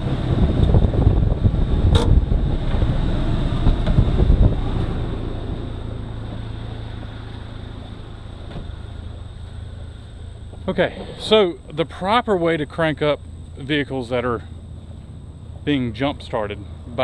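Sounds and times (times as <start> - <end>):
vehicle engine running rough: 0.0 - 17.0.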